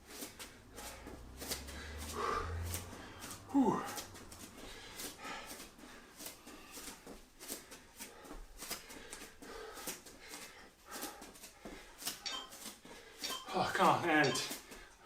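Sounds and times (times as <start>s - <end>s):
person doing side steps: 0.0s - 15.0s.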